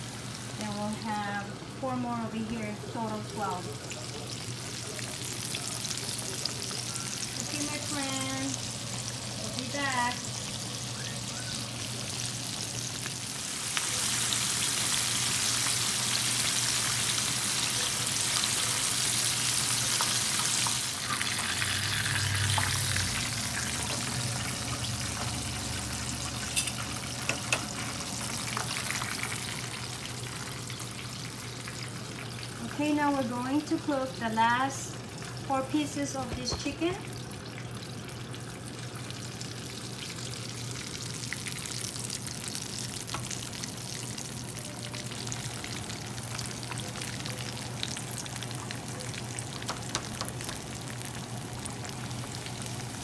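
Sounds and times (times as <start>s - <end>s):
chicken deep-frying in oil: 0.0s - 53.0s.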